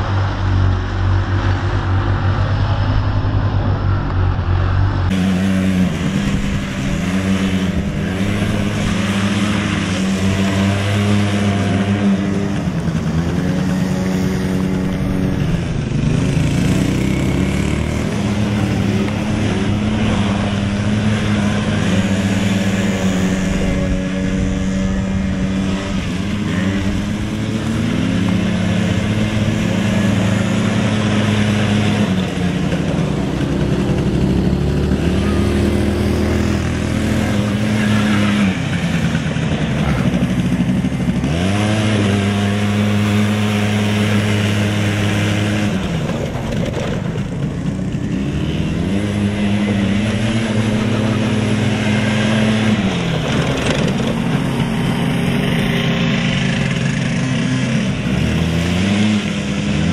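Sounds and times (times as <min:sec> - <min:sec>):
small atv engine revving: 0:05.0 - 0:59.9.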